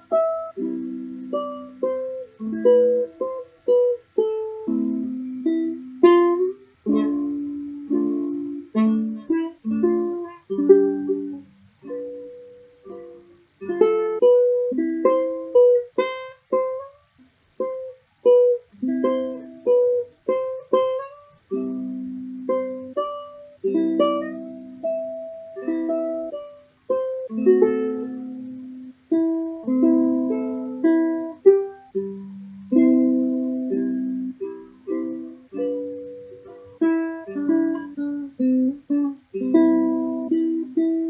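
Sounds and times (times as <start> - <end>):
fingerstyle ukulele: 0.0 - 41.0.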